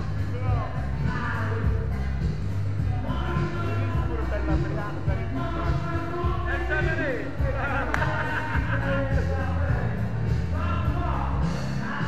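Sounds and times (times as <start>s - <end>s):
dance music with heavy bass: 0.0s - 12.0s
sung vocal: 0.0s - 12.0s.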